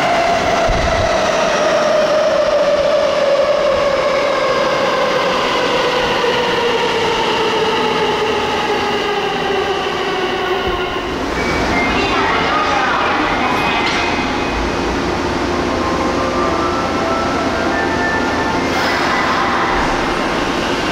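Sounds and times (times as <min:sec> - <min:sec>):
train running and rail noise: 0:00.0 - 0:20.9.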